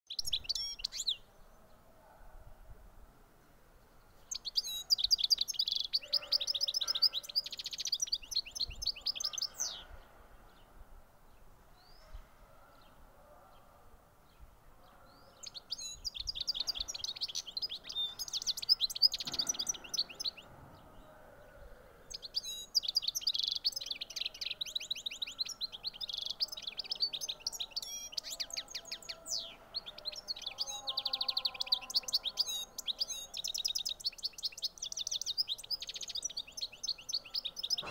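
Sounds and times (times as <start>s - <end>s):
bird twittering song: 0.1s - 1.8s, 3.8s - 10.7s, 14.3s - 37.9s.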